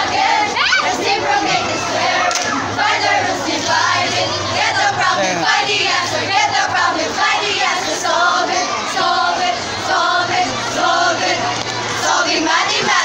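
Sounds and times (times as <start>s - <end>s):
group singing a jingle: 0.0s - 13.0s.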